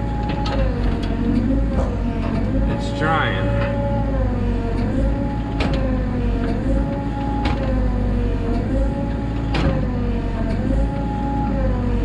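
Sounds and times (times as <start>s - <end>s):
excavator engine straining: 0.0s - 12.0s.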